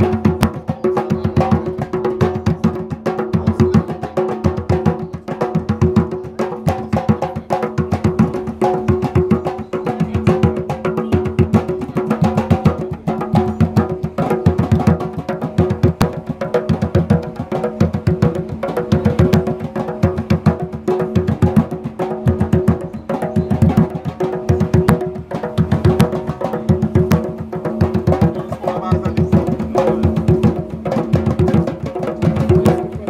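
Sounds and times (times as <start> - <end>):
hand drums beaten fast: 0.0 - 33.0.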